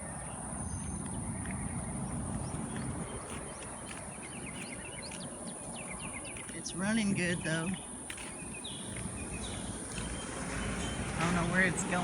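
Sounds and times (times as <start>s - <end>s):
birds chirping: 0.0s - 12.0s
insects droning: 0.0s - 12.0s.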